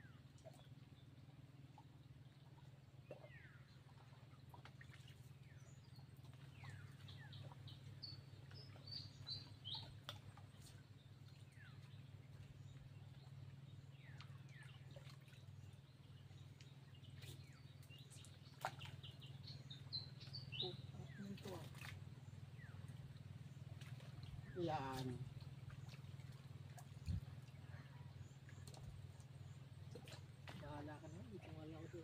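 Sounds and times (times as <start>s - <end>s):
faint low hum: 0.0s - 32.0s
small birds chirping: 1.8s - 32.0s.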